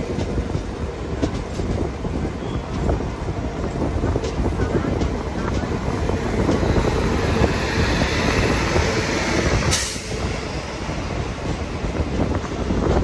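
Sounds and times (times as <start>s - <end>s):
train rumble: 0.0s - 13.0s
train wheels clattering over rail joints: 0.0s - 13.0s.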